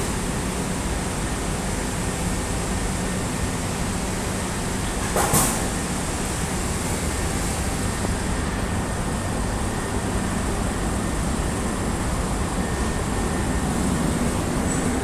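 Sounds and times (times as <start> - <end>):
escalator mechanical hum: 0.0 - 15.0.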